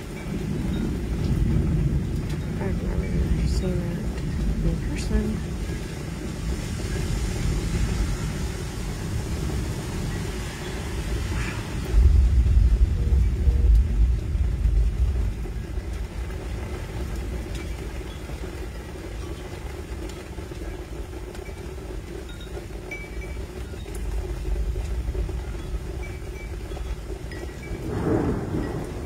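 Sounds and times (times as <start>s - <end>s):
storm rumble: 0.0s - 29.0s.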